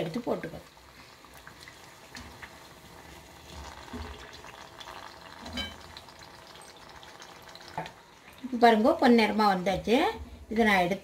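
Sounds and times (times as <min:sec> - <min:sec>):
oil bubbling and sizzling: 0:00.0 - 0:11.0.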